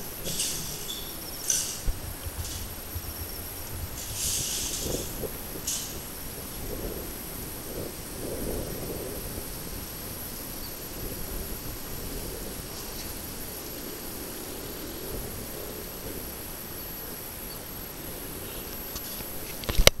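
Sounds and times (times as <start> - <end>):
low rumble and hiss: 0.0 - 19.6.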